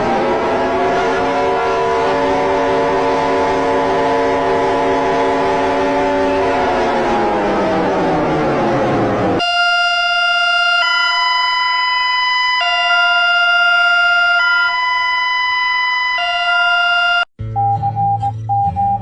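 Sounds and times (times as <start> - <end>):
falling siren-like alarm tone: 0.0 - 17.3
loud electronic alarm chords: 0.0 - 17.3.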